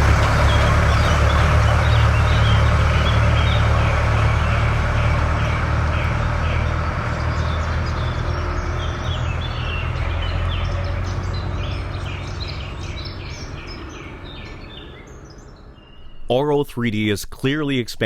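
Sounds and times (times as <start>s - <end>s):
tractor engine drone: 0.0s - 18.0s
small birds chirping: 0.3s - 16.6s.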